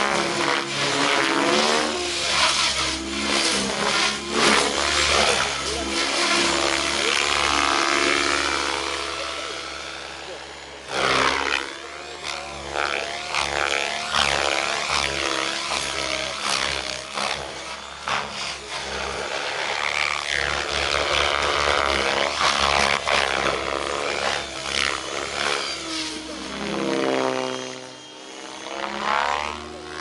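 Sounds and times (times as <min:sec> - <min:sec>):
model helicopter rotor whine: 0:00.0 - 0:30.0.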